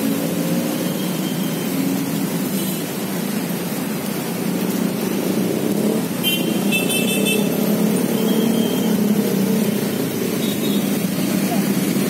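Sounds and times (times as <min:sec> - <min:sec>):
cars on a busy road: 0:00.0 - 0:12.0
motorcycles passing: 0:00.0 - 0:12.0.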